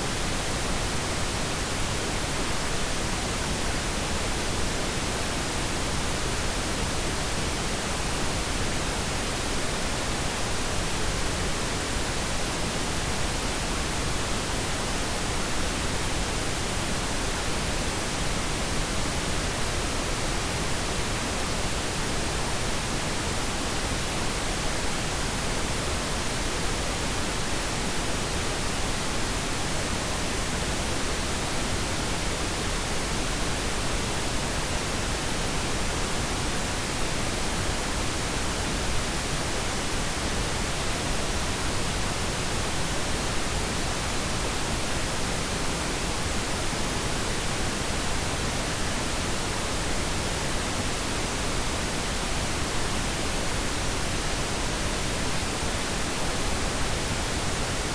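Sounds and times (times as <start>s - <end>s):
steady pink noise hiss: 0.0s - 57.9s.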